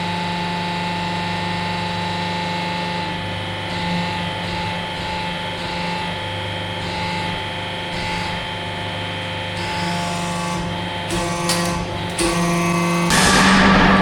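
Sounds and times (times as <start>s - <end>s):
hydraulic pump humming and whining: 0.0s - 14.0s.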